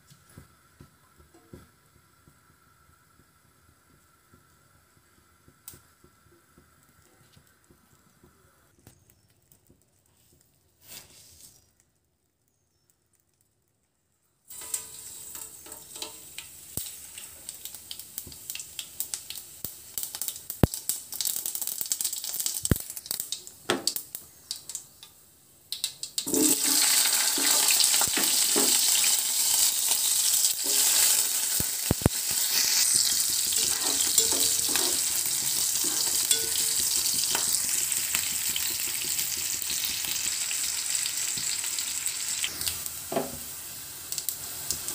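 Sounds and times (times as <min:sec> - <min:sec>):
onions sizzling in oil: 0:00.0 - 0:08.4, 0:14.5 - 0:25.1, 0:25.8 - 0:44.9
seeds crackling in hot oil: 0:00.0 - 0:44.9.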